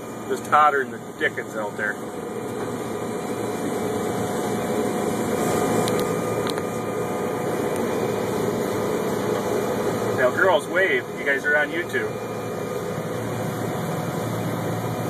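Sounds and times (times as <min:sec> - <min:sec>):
combine harvester hum from cab: 0:00.0 - 0:15.0.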